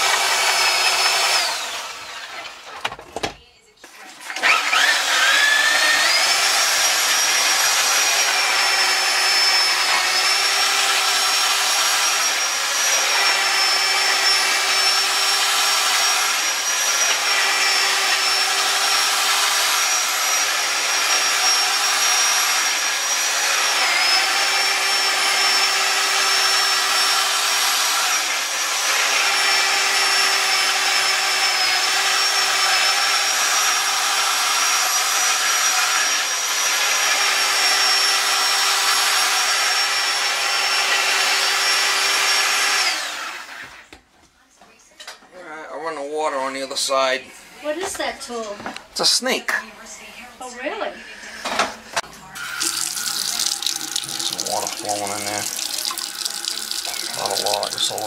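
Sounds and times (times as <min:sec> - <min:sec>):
drain snake motor whining: 0:00.0 - 0:02.7, 0:04.4 - 0:43.5, 0:52.4 - 0:58.0.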